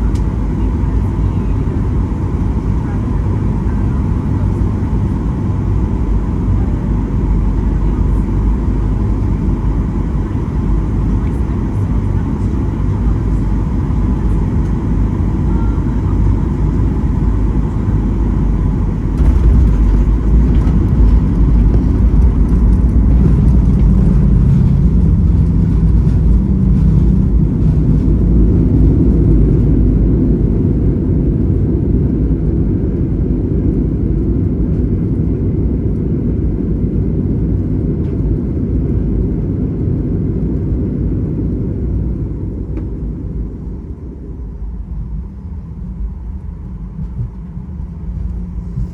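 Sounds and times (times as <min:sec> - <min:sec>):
jet cabin low rumble: 0:00.0 - 0:48.9.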